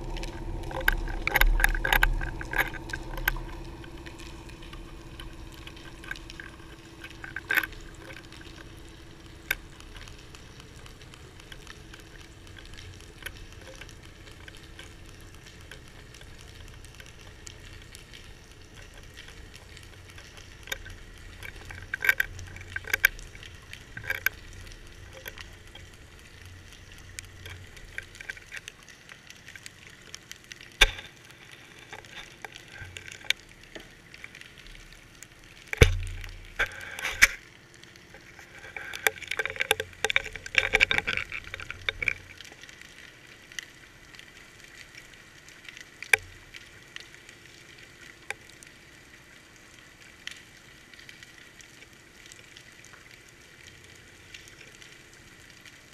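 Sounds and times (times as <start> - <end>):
underwater clicks and crackles: 0.0 - 55.9.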